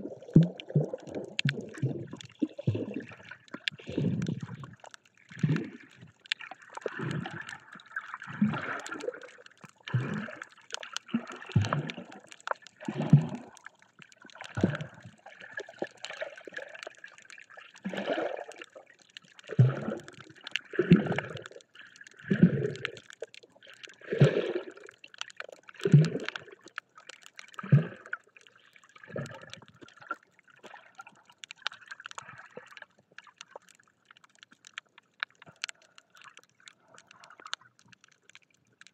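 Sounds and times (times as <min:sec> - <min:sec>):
underwater water sloshing: 0:00.0 - 0:38.9.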